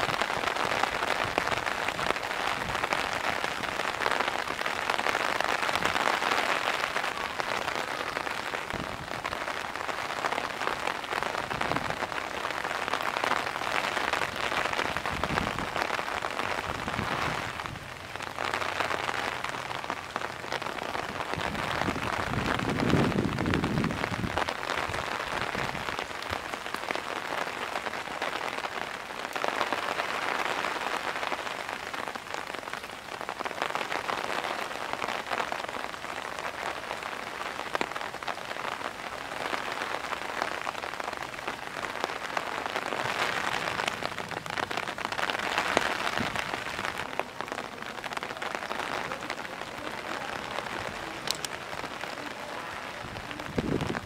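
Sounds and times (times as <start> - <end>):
heavy rain pattering: 0.0 - 54.0.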